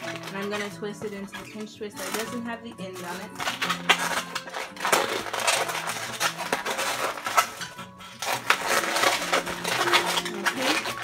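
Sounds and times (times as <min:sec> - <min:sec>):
balloons squeaking and rubbing: 0:00.0 - 0:11.0.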